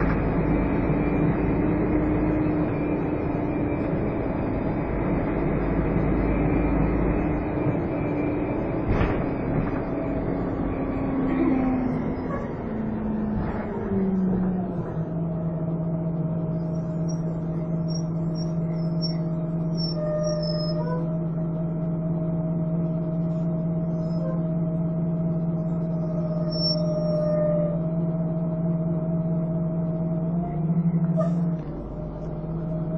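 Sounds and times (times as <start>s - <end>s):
bus engine whining: 0.0s - 32.9s
low rumble: 0.0s - 32.9s.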